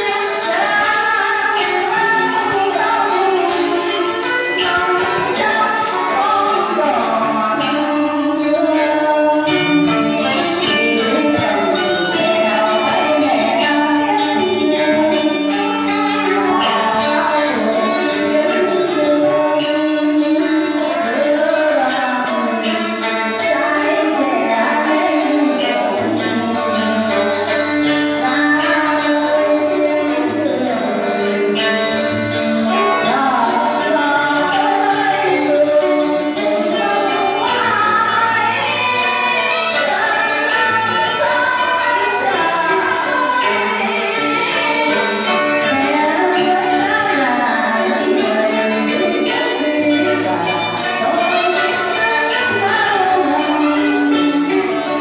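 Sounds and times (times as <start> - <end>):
musical accompaniment: 0.0 - 55.0
song with singing voice: 0.0 - 55.0.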